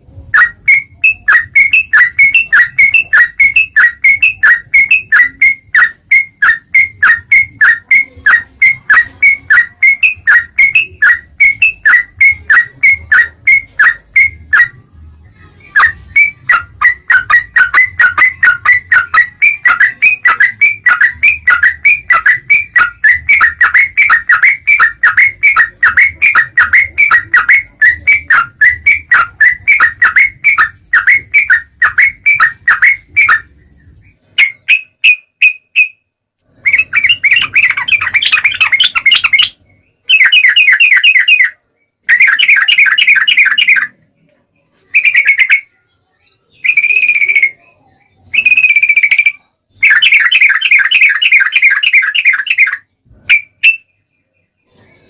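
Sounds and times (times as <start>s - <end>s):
bulbul chirping song: 0.0s - 55.0s.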